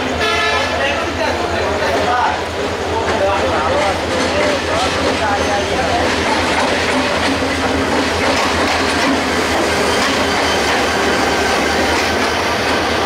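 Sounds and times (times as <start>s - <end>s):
diesel train passing: 0.0s - 13.0s.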